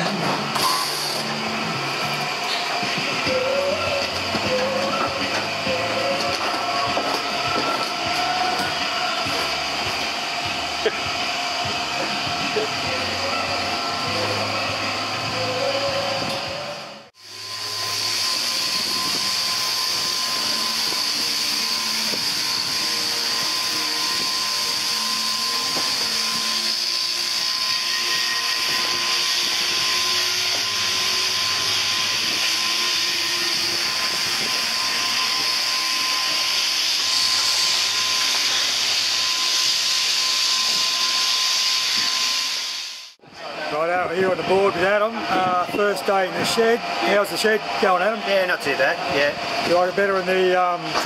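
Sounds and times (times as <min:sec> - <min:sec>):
shearing handpieces hissing and whining: 0:00.0 - 0:51.0.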